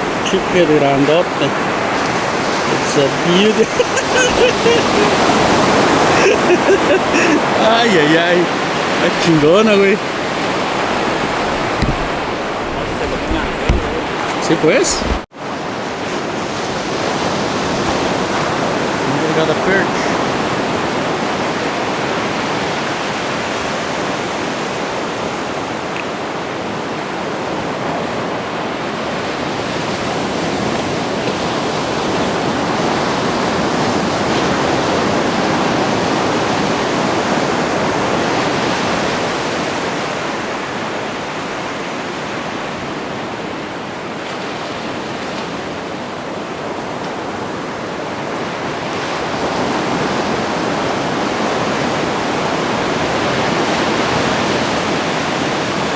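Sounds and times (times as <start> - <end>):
ocean surf washing on beach: 0.0 - 55.9.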